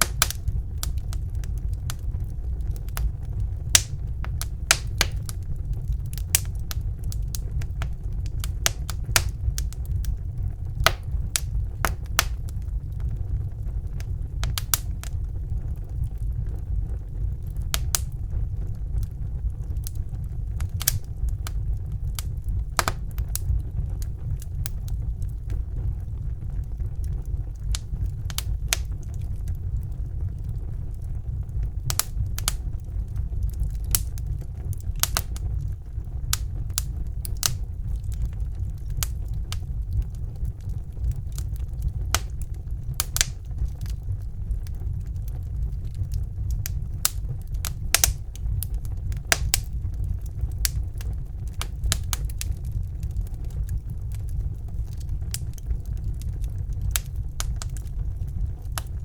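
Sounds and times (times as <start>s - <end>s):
flames rumbling: 0.0s - 59.0s
wood fire crackling and popping: 0.0s - 59.0s.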